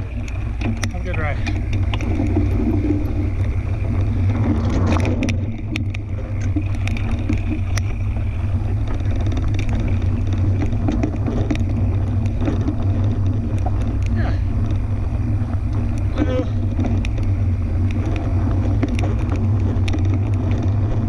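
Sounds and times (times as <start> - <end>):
bike clicks and rattles: 0.0 - 21.0
bike tyre noise: 0.0 - 21.0
wind buffeting microphone: 0.0 - 21.0.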